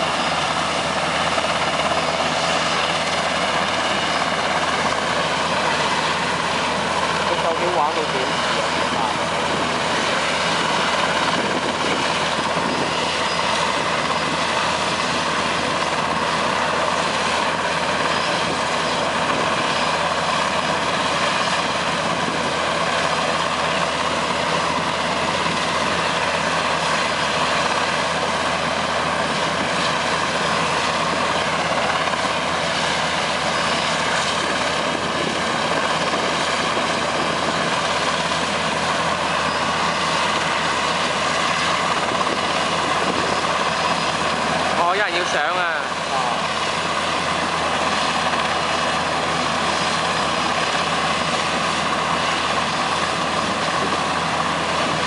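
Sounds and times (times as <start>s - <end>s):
helicopter engines and rotor drone: 0.0s - 55.0s.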